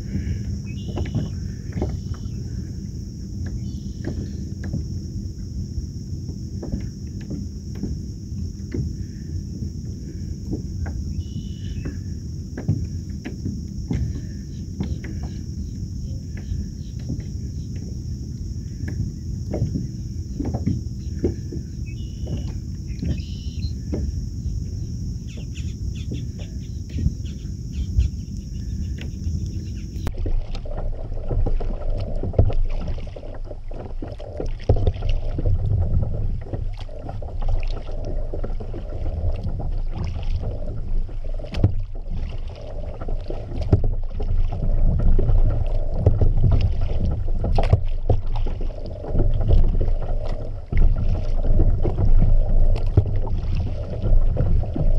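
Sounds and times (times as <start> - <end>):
paddle splashing in water: 0.0 - 54.9
steady low rumble: 0.0 - 54.9.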